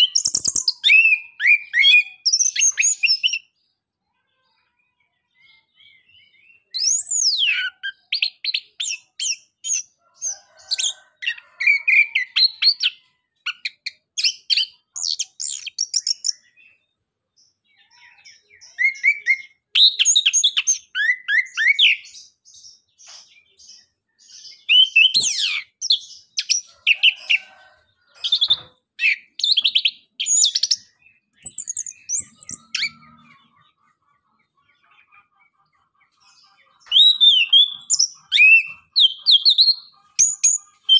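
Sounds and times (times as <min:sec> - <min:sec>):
thrush singing twittering song: 0:00.0 - 0:40.9.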